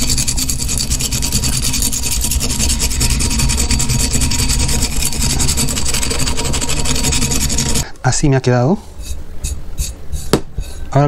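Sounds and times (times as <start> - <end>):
sandpaper rasping on glass: 0.0 - 7.9, 8.9 - 11.0.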